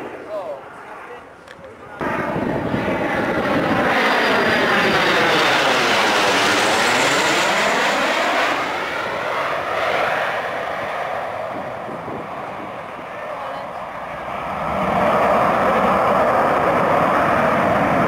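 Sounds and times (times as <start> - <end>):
jet flying low overhead: 0.0 - 18.0.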